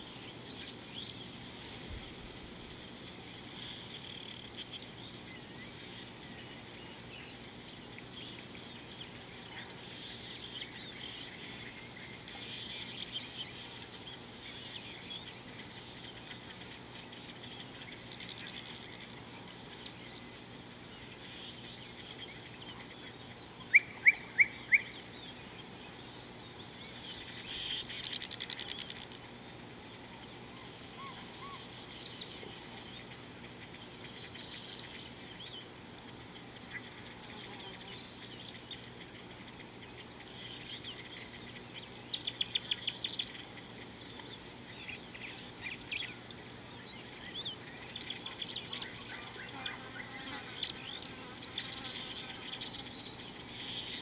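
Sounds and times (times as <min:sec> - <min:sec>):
birds chirping: 0:02.9 - 0:54.0.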